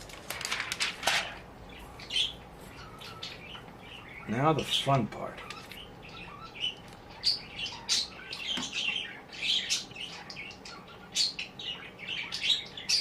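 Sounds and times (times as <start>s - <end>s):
small bird chirping: 1.7s - 4.8s, 5.4s - 13.0s.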